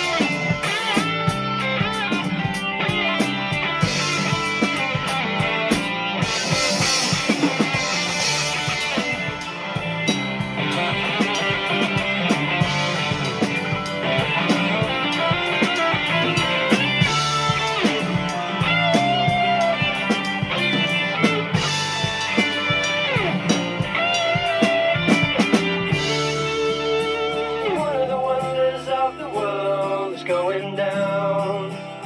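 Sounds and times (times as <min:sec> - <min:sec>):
drum kit steady beat: 0:00.0 - 0:28.0
electric guitar solo: 0:00.0 - 0:28.3
bass guitar: 0:00.0 - 0:32.0.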